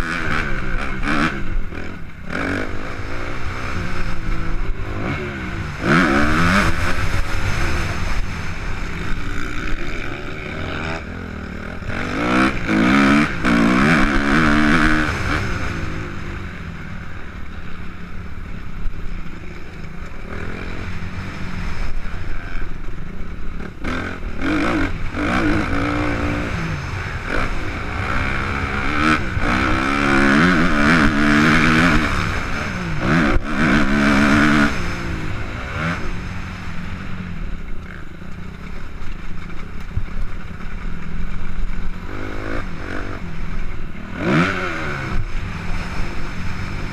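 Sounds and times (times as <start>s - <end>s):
motocross bike engine revving: 0.0s - 46.9s
steady rushing noise: 0.0s - 46.9s.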